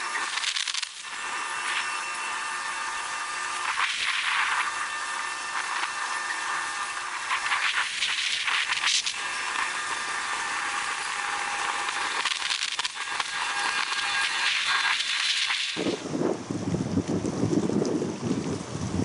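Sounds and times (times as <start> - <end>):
steady hiss with crackles: 0.0 - 19.0.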